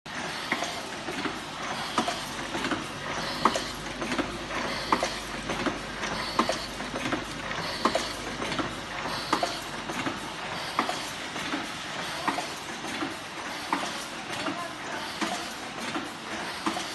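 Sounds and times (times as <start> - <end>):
machine mechanism clacking: 0.1 - 16.9.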